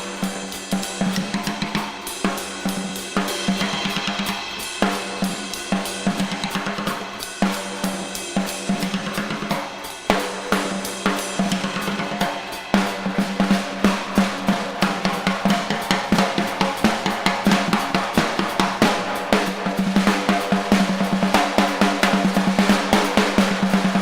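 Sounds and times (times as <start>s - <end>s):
cymbals: 0.0s - 24.0s
drum kit solo: 0.0s - 24.0s.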